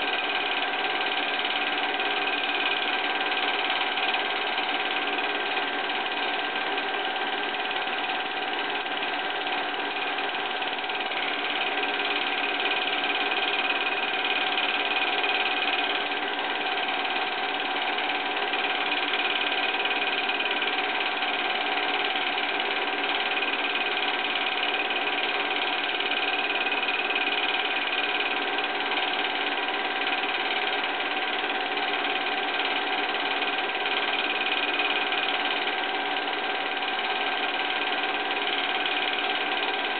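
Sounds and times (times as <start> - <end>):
movie projector whirring: 0.0 - 39.9.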